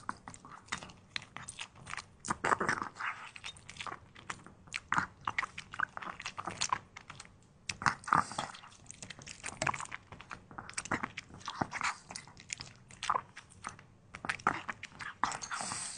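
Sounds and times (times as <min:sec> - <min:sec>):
puppy crunching vegetables: 0:00.0 - 0:15.9.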